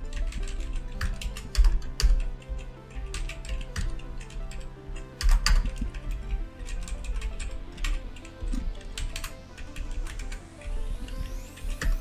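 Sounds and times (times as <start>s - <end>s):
background music: 0.0s - 12.0s
keyboard typing: 0.0s - 12.0s.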